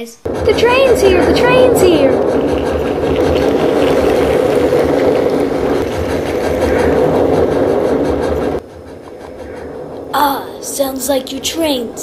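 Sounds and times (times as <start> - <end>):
train going past: 0.2 - 12.0.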